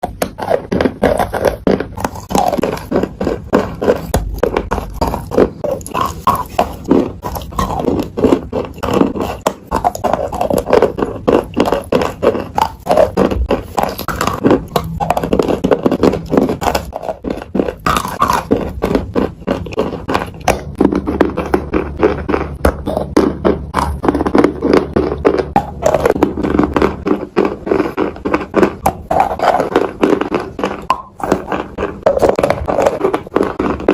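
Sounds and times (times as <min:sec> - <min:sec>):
crunching of crunchy food: 0:00.0 - 0:33.9.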